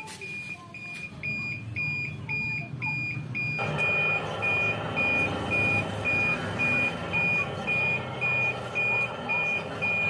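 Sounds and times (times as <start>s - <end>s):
reversing alarm beeping: 0.2s - 10.0s
engine rumble: 1.1s - 10.0s.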